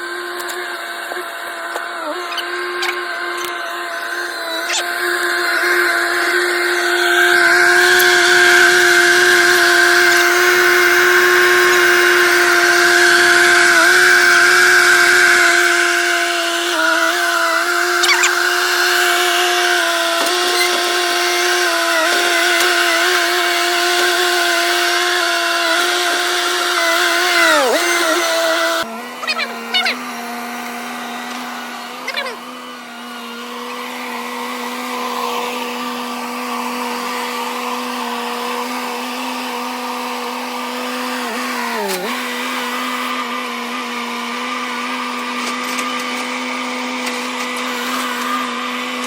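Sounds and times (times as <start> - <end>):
skid steer engine whining: 0.0 - 49.0.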